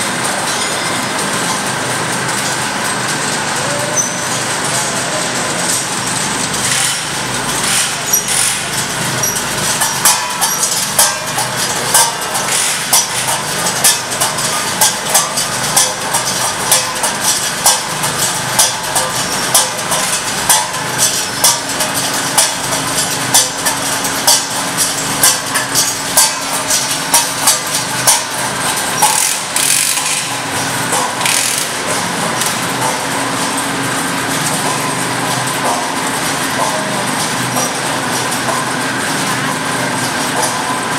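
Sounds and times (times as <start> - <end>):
machinery din: 0.0 - 40.9.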